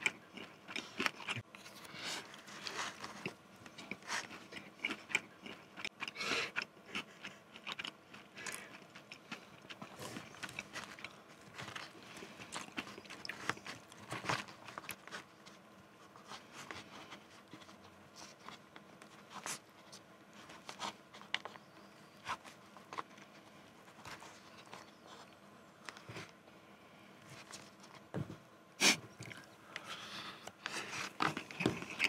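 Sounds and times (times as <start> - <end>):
chewing: 0.0 - 26.4, 29.2 - 32.0.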